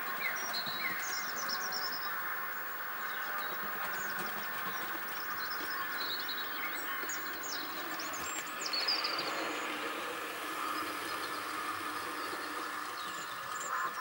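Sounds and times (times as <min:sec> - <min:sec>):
model train whirring: 0:00.0 - 0:14.0
small birds chirping: 0:00.0 - 0:14.0.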